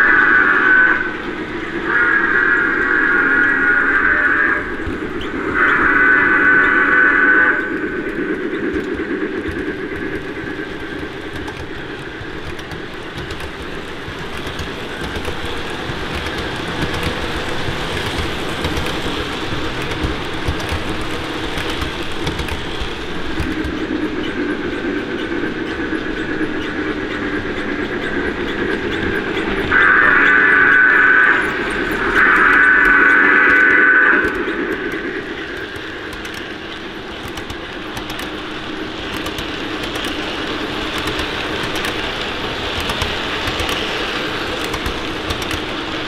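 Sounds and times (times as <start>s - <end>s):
clickety-clack of rail joints: 0.0s - 46.0s
model train wheels rumbling on rails: 0.0s - 46.0s.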